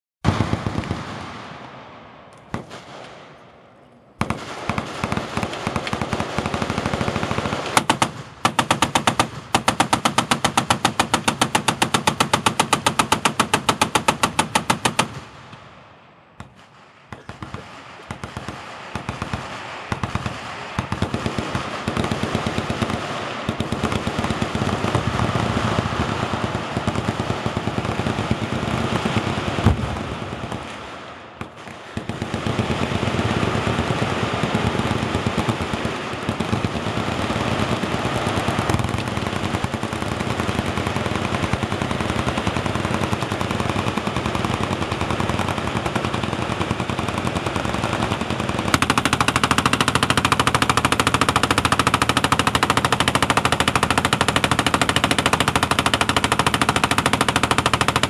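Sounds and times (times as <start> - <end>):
machine-gun fire: 0.2 - 3.6, 4.2 - 15.6, 16.4 - 58.0.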